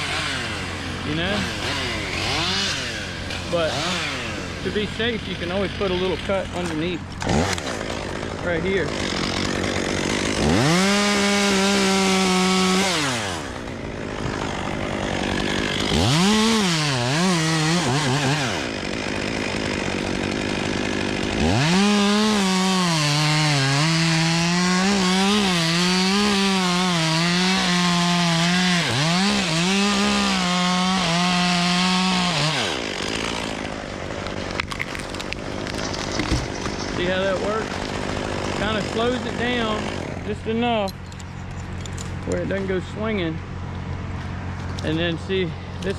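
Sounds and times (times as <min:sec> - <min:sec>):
chainsaw cutting a limb: 0:00.0 - 0:43.1.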